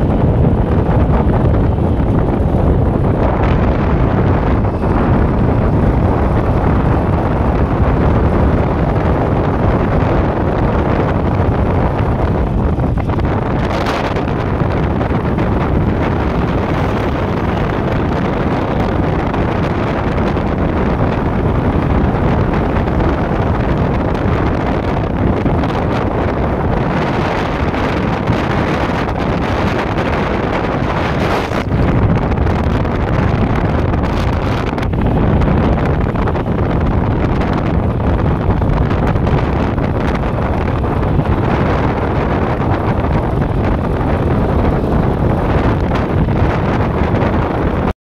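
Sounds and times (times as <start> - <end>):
motorcycle riding noise: 0.0 - 47.9
wind rushing over microphone: 0.0 - 48.0.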